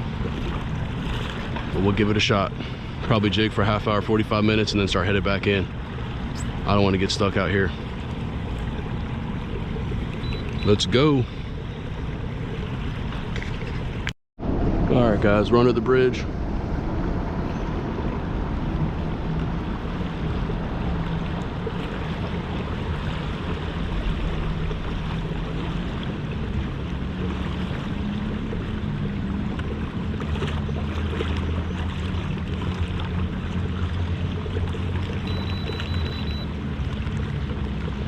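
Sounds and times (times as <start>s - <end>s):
water rushing along hull: 0.0s - 38.0s.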